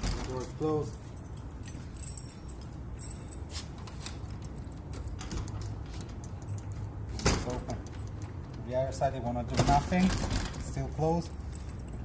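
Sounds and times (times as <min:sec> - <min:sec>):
keys jingling: 0:00.0 - 0:08.6, 0:10.6 - 0:12.0.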